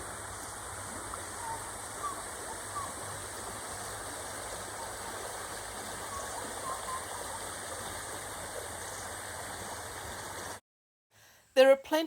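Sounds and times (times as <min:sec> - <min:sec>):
stream rushing: 0:00.0 - 0:10.6.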